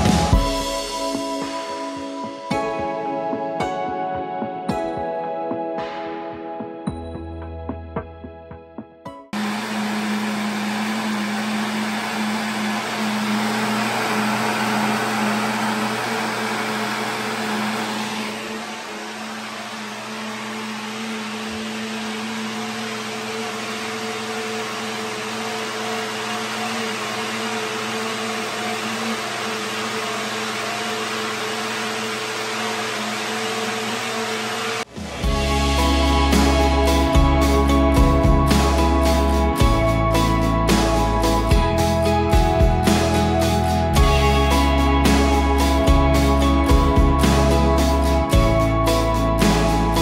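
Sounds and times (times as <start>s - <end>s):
blender running: 0.0s - 2.2s, 9.4s - 50.0s.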